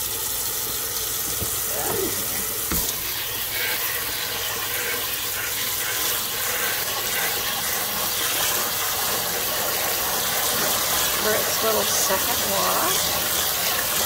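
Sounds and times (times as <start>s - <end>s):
tap water running into plastic bowl: 0.0s - 14.0s.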